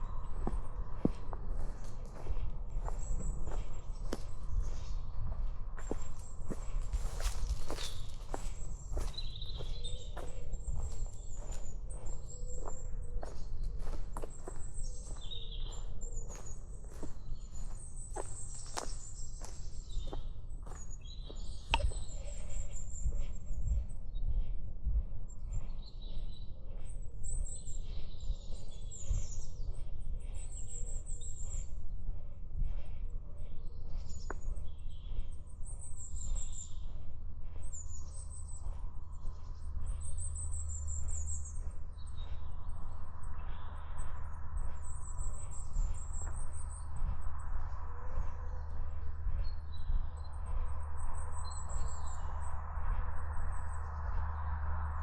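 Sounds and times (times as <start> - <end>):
songbirds singing and calling: 0.0 - 55.0
steady low rumble: 0.0 - 55.0.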